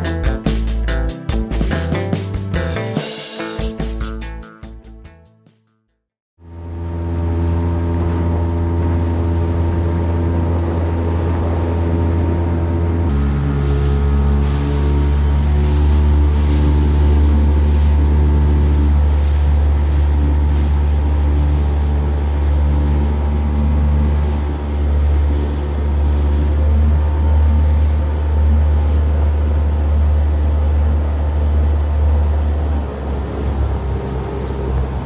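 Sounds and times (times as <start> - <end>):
motorboat engine running: 6.4 - 35.0.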